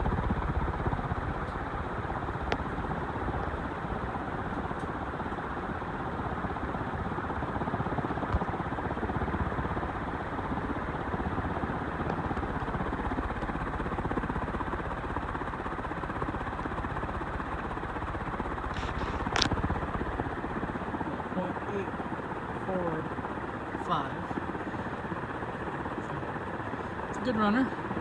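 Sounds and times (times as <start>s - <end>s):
ceiling fan rushing air: 0.0s - 28.0s.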